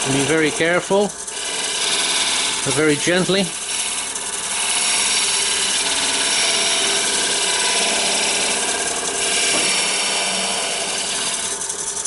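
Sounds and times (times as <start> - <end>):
tool scraping spinning wood: 0.0 - 12.0
wood lathe running: 0.0 - 12.0.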